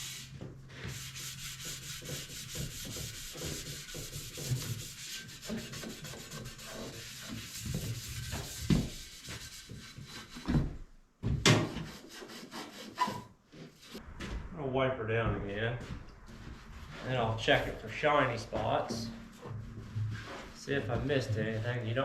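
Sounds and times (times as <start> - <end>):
hand sanding metal: 0.0 - 10.5, 11.8 - 14.0, 16.3 - 22.0.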